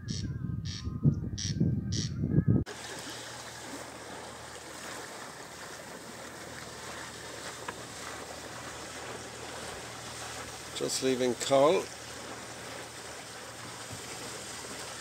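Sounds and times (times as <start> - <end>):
wind and water rushing along hull: 0.0 - 15.0.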